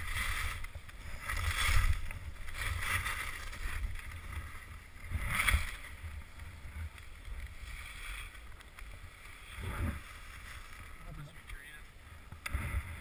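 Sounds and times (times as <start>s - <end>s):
skis scraping snow: 0.0s - 13.0s.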